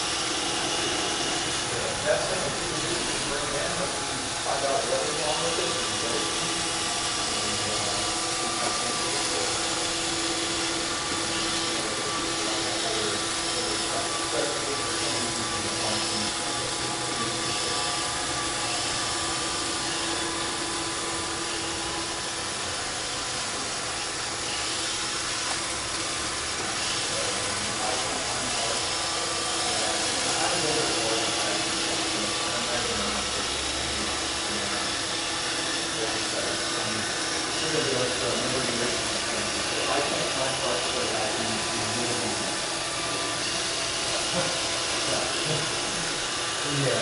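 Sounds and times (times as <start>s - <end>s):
robot vacuum whirring: 0.0s - 47.0s.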